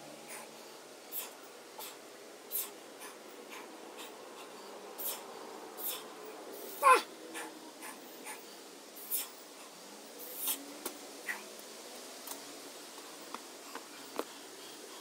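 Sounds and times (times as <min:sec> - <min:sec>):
faint steady hiss: 0:00.0 - 0:15.0
puffs of breath: 0:00.1 - 0:11.4, 0:13.0 - 0:15.0.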